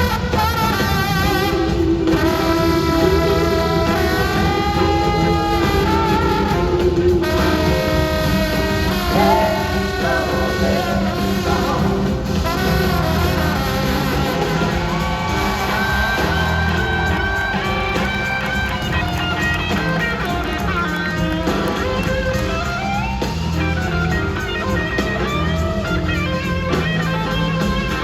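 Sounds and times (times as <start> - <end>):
bass and drums: 0.0 - 28.0
electric guitar: 0.0 - 28.0
horn section: 0.0 - 28.0.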